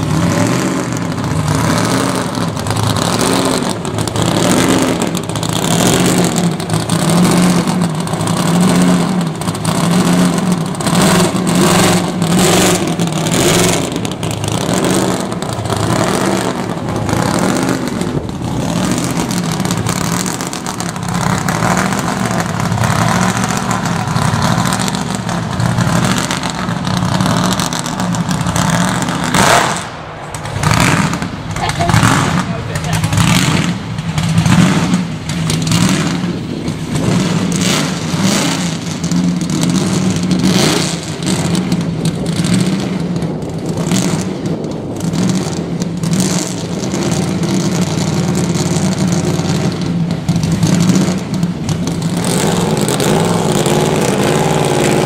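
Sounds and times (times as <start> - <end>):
car engine pulling away: 0.0 - 55.0.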